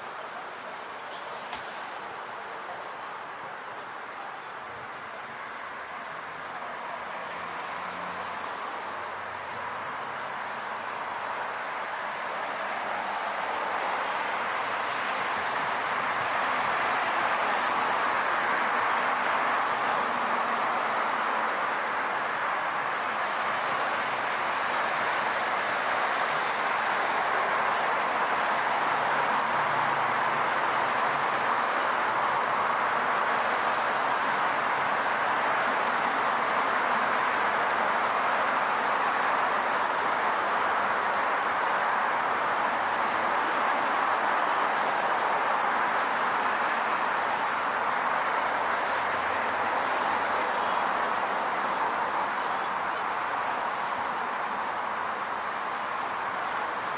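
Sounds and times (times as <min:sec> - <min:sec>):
passing traffic: 0:00.0 - 0:56.9.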